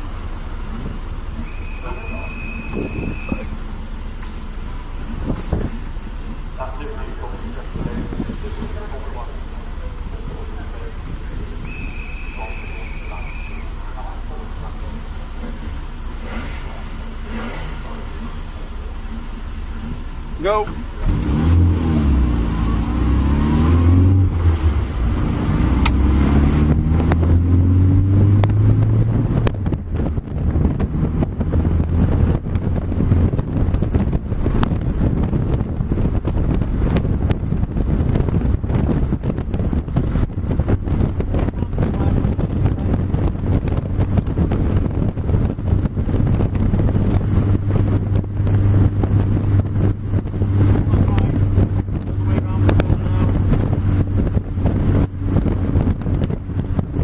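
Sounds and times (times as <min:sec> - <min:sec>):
wind buffeting microphone: 0:00.0 - 0:17.2, 0:17.8 - 0:57.0
car engine accelerating: 0:00.0 - 0:57.0
road noise: 0:00.0 - 0:57.0.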